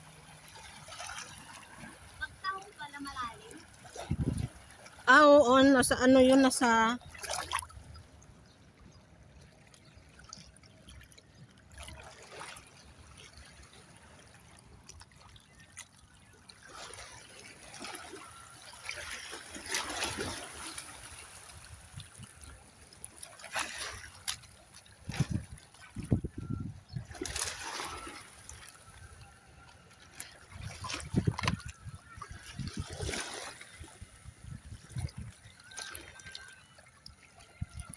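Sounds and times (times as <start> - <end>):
water splashing: 0.0 - 8.4, 9.4 - 37.9
water trickling and lapping: 0.0 - 37.9.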